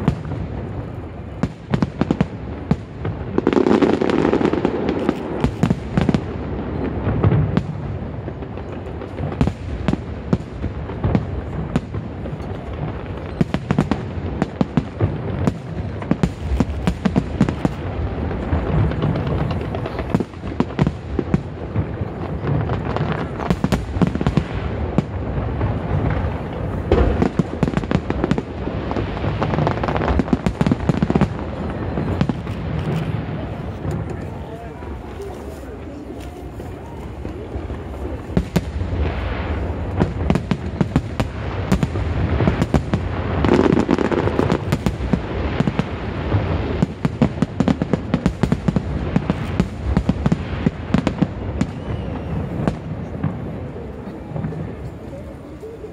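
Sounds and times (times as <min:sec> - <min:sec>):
fireworks bangs: 0:00.0 - 0:55.9
fireworks rumble and crackle: 0:00.0 - 0:55.9.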